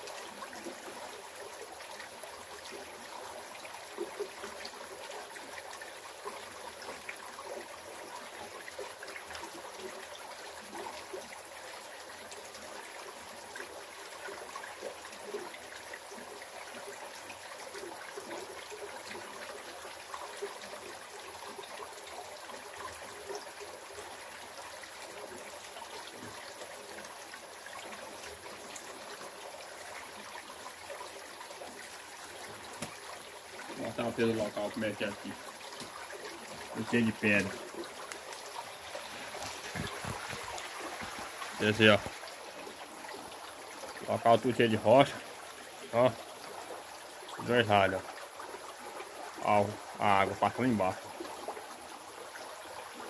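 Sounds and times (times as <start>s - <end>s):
creek trickling over stones: 0.0s - 53.0s.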